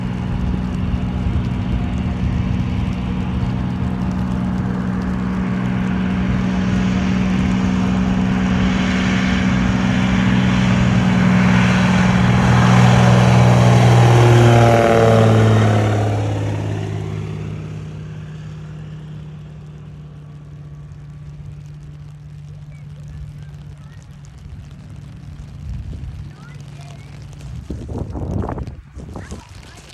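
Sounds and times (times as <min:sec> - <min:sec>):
propeller plane engine passing: 0:00.0 - 0:29.9.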